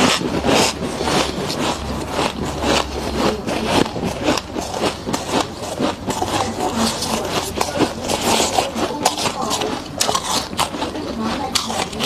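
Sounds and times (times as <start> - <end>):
frost crunching as chewed: 0.0 - 12.0.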